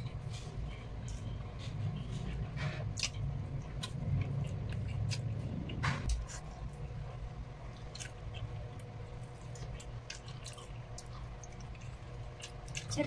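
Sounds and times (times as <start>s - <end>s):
chewing food: 0.0s - 13.0s
low hum: 0.0s - 13.0s.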